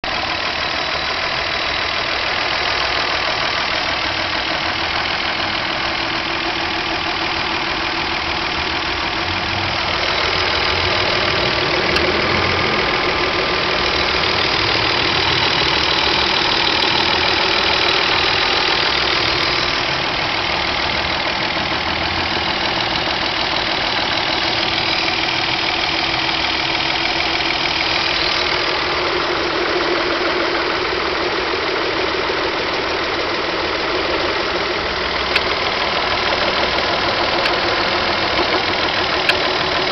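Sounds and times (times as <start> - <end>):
car engine running: 0.0 - 39.9
engine clatter: 0.0 - 39.9.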